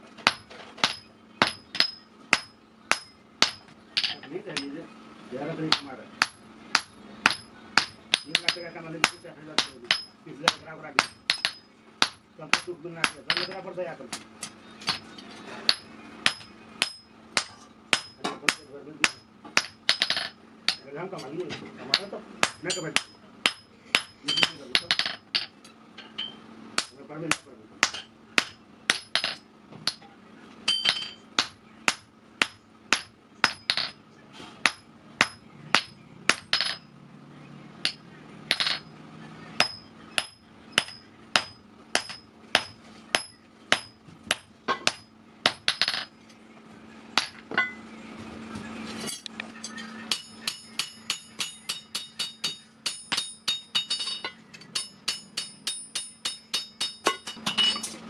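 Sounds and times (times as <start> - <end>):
hammer striking hot steel on anvil: 0.2 - 4.7, 5.7 - 15.1, 15.7 - 20.8, 21.9 - 25.5, 26.2 - 30.0, 30.7 - 34.0, 34.6 - 36.8, 39.6 - 46.1, 49.1 - 58.0.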